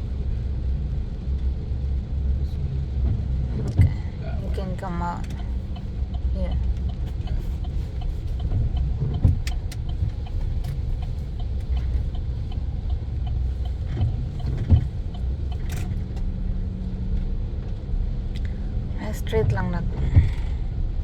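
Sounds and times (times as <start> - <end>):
truck engine rumble inside cab: 0.0 - 21.0.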